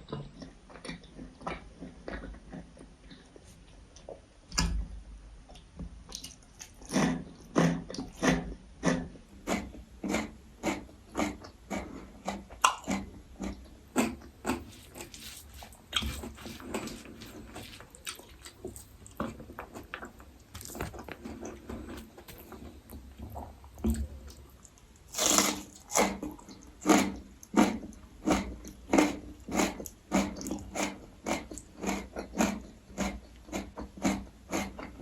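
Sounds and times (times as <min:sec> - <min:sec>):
person chewing with mouth smacks: 0:05.5 - 0:35.0.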